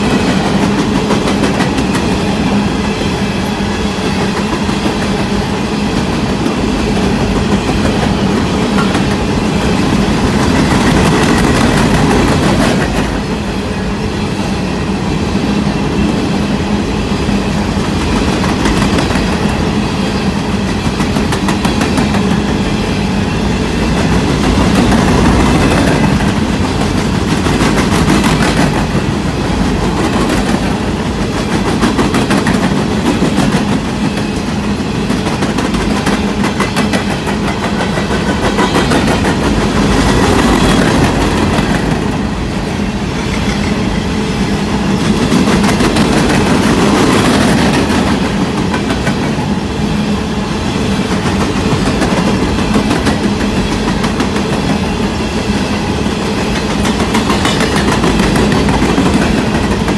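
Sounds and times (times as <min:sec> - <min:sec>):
train rumble: 0:00.0 - 0:59.9
train wheels clicking on rails: 0:00.0 - 0:59.9.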